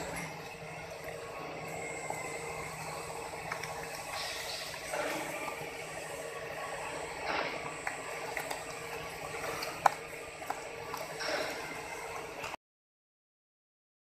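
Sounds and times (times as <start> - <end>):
machine humming with hiss: 0.0 - 12.6.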